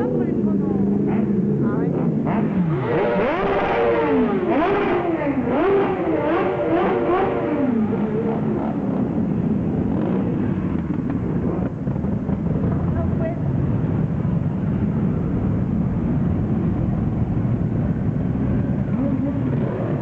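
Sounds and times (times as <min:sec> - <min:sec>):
many motorcycles running: 0:00.0 - 0:20.0
motorcycle engine revving: 0:00.8 - 0:20.0.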